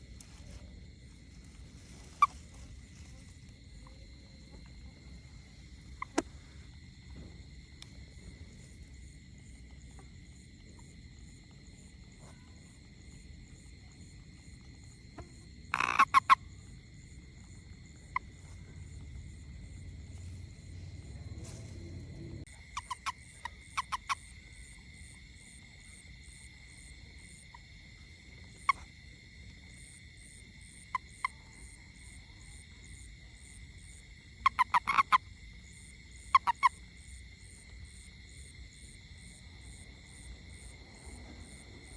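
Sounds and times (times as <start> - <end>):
frog croaking: 0.0 - 10.9, 11.8 - 41.9.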